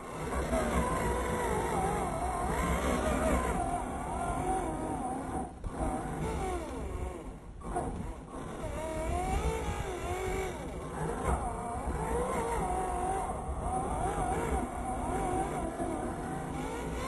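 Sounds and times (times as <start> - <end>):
toy car motor whining: 0.1 - 17.0.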